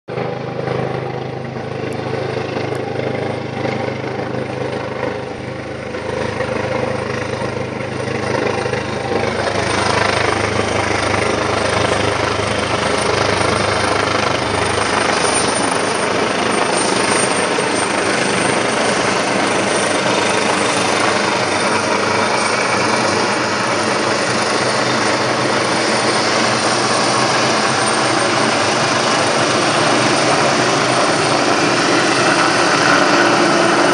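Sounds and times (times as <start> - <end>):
helicopter rotor and turbine: 0.1 - 33.9.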